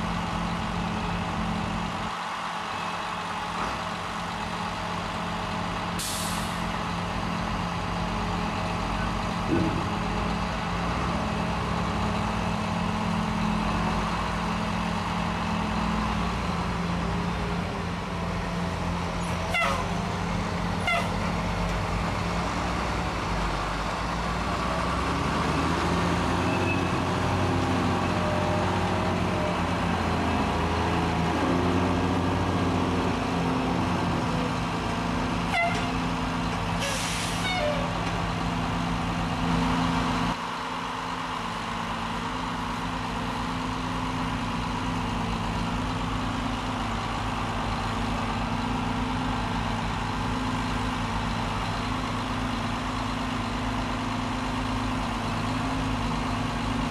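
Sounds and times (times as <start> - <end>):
heavy diesel crane engines: 0.0 - 56.9.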